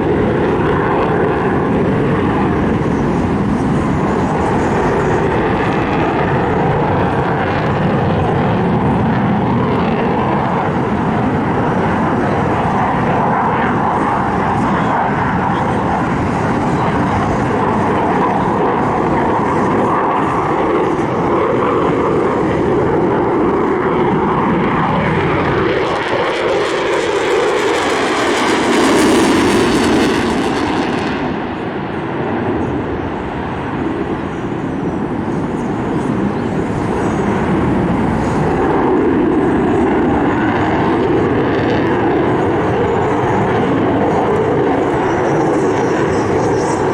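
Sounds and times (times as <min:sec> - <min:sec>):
airplane engine flying past: 0:00.0 - 0:46.9.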